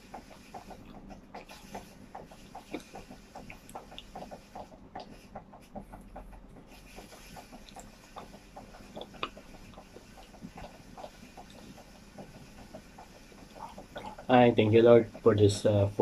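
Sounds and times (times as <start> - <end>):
wet chewing and lip-smacking: 0.1 - 14.3.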